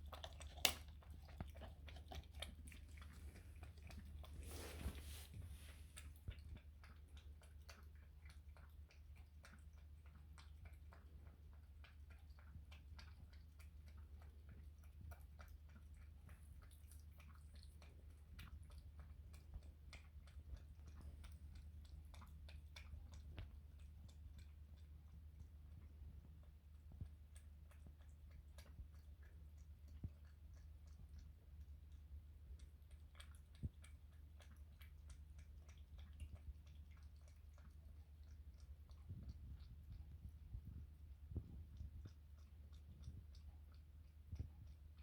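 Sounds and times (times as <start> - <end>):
kitten lapping milk: 0.0 - 45.0.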